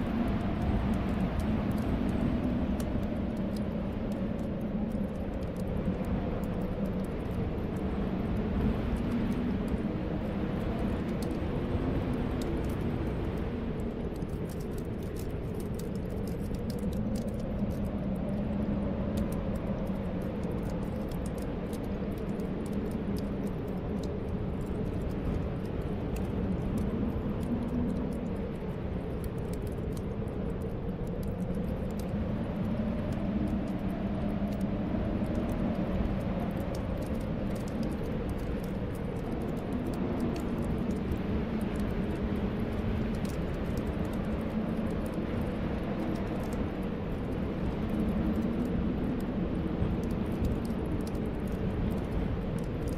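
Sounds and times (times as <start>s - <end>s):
wind rushing with low whistle: 0.0s - 52.9s.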